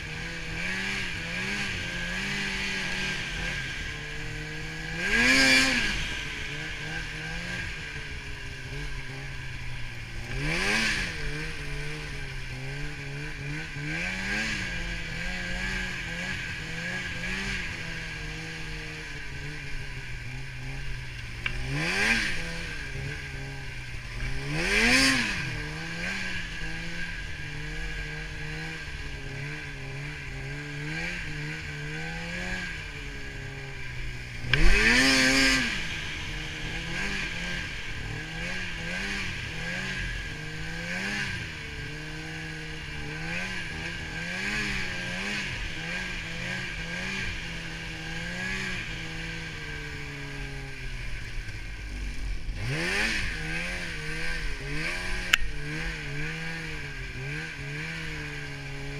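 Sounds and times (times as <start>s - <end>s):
snowmobile engine revving: 0.0s - 58.9s.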